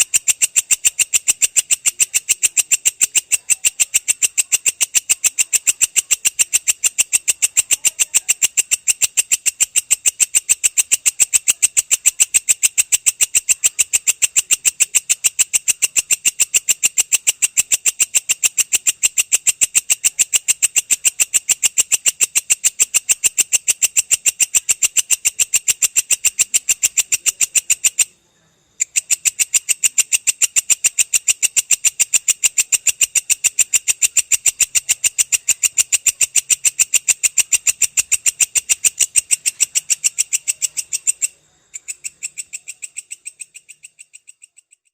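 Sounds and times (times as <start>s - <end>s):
katydid chirping: 0.0s - 44.9s.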